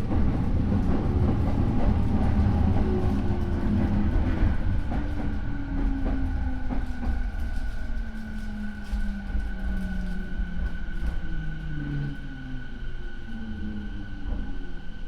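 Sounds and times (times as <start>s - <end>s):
train running rumble: 0.0s - 12.9s.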